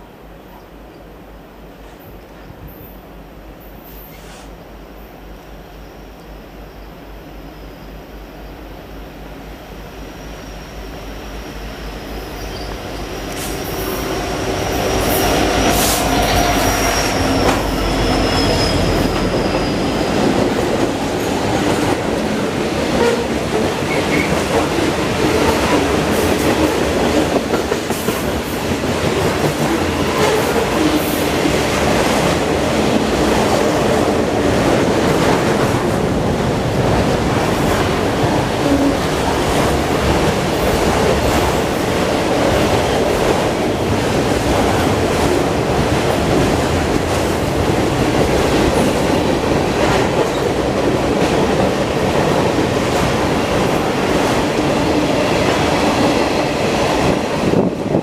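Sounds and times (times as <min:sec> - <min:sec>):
rail cars rolling past: 0:00.0 - 0:58.0.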